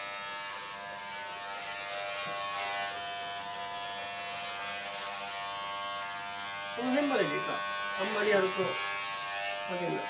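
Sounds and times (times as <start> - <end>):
electric clipper buzzing: 0.0 - 10.0.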